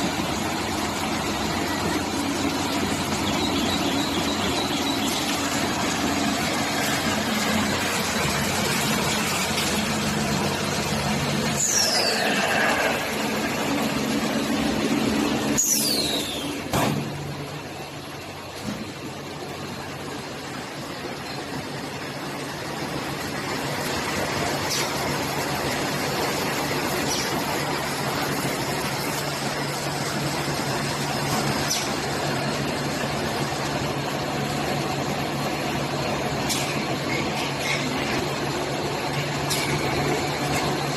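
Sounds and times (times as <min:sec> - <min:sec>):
baling machine humming: 0:00.0 - 0:40.9.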